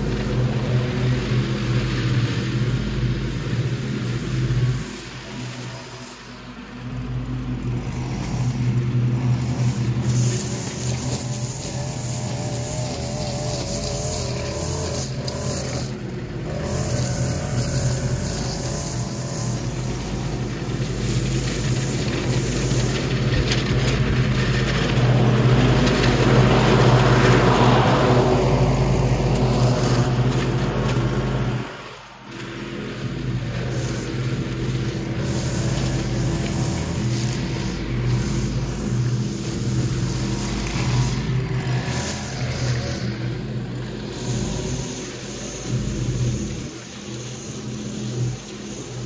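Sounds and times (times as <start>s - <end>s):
lawn mower mulching leaves: 0.0s - 49.0s
leaf blower engine drone: 0.0s - 49.0s.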